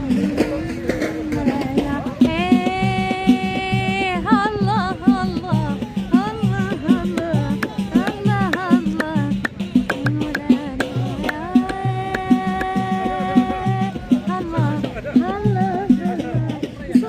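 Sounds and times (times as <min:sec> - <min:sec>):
person singing ornamented phrases: 0:00.0 - 0:17.0
steady drum beat: 0:00.0 - 0:17.0.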